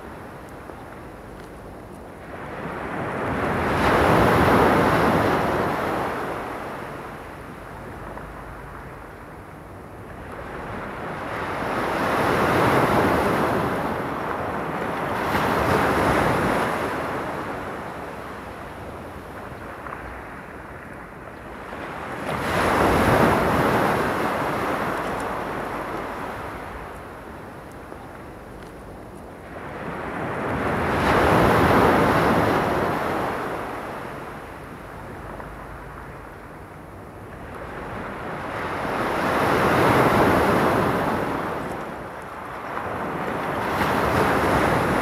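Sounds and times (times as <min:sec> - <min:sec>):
waves washing on pebble beach: 0:02.1 - 0:09.3, 0:10.2 - 0:45.0.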